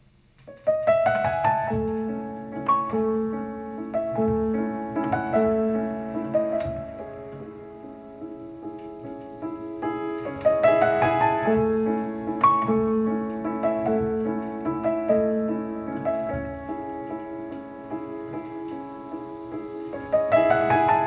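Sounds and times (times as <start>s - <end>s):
solo piano music over speakers: 0.0s - 21.0s.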